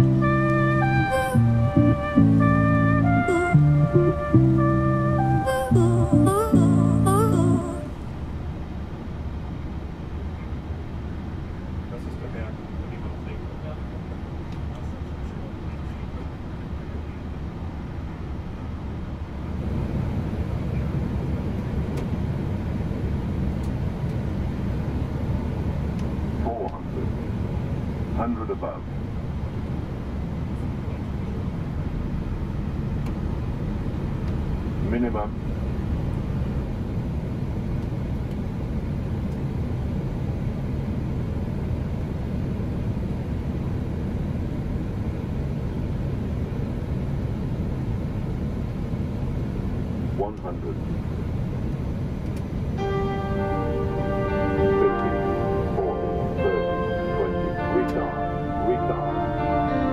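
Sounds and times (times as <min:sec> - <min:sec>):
cockpit airflow and engine noise: 0:00.0 - 0:59.9.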